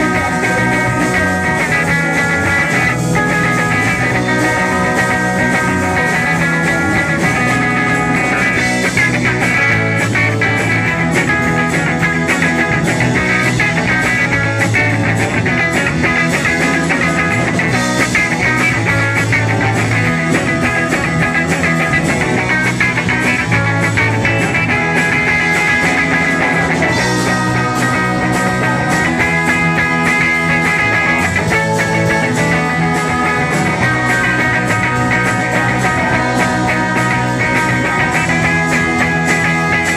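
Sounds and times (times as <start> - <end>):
bass guitar: 0.0 - 39.9
drums: 0.0 - 39.9
electric guitar strumming: 0.0 - 39.9.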